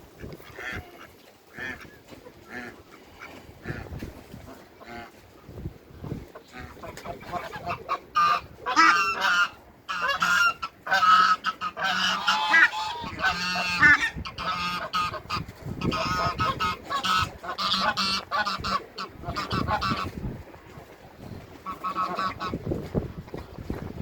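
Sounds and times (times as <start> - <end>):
geese honking: 0.2 - 5.2, 6.3 - 20.8, 21.5 - 22.7.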